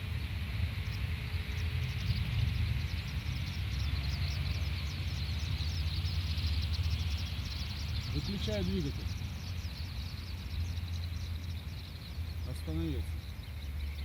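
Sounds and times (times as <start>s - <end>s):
wind rumble on microphone: 0.0s - 14.0s
high bird chirps: 0.9s - 14.0s.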